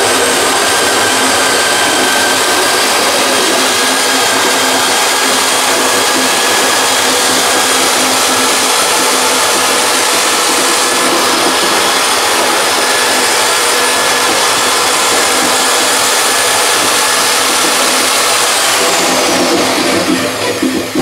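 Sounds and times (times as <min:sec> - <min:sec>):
motor grinding apples: 0:00.0 - 0:21.0.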